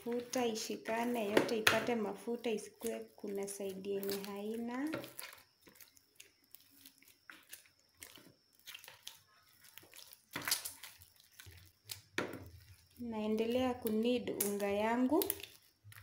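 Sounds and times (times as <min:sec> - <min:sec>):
dough smacking: 0:00.0 - 0:16.0
hands kneading dough: 0:00.0 - 0:16.0.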